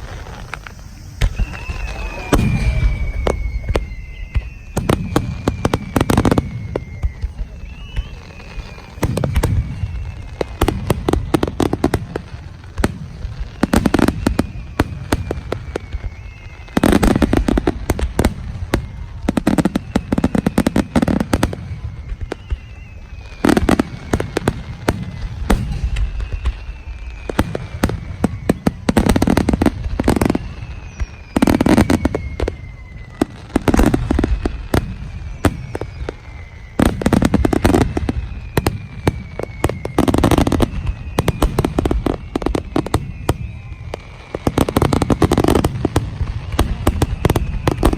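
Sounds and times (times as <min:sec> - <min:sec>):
falling firework whistle: 0:00.0 - 0:47.9
firework shell bursts and crackle: 0:00.0 - 0:47.9.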